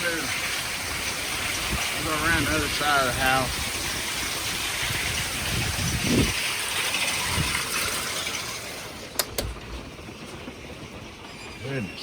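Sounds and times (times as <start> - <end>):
hail and heavy rain: 0.0 - 12.0.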